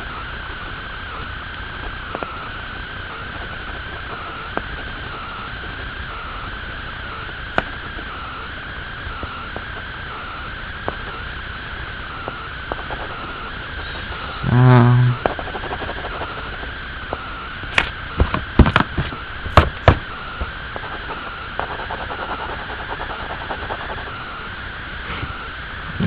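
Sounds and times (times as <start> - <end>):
faint wavering whine: 0.0 - 26.0.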